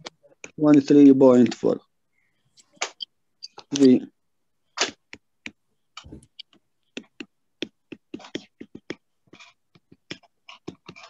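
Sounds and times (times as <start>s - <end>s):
stylus clicking and scratching on tablet: 0.0s - 4.1s, 4.7s - 11.0s.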